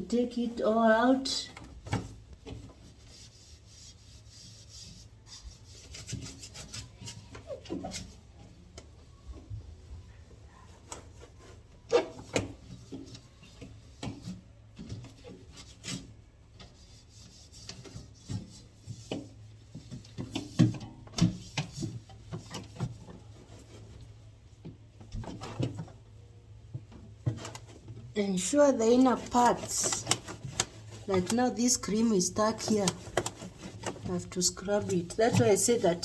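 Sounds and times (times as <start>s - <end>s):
scrubbing and wiping inside fridge: 0.0s - 36.0s.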